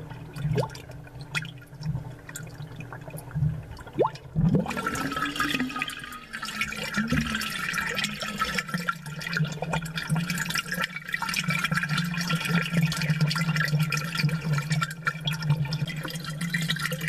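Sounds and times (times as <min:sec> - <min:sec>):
gurgling aquarium bubbles: 0:00.0 - 0:17.0.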